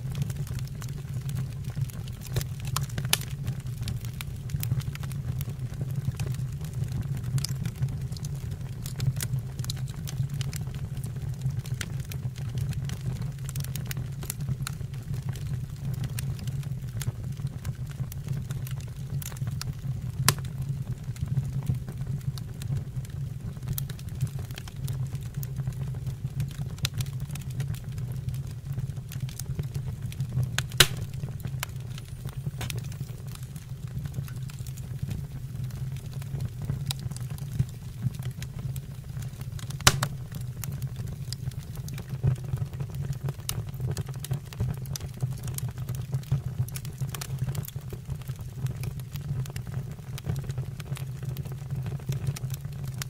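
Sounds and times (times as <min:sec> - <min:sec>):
wood fire crackling: 0:00.0 - 0:53.0
fire pops: 0:00.1 - 0:22.6, 0:23.6 - 0:53.0.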